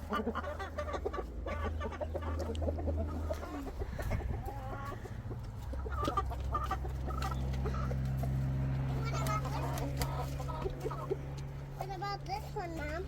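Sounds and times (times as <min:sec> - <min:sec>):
hens clucking: 0:00.0 - 0:13.0
steady low hum: 0:00.0 - 0:13.0.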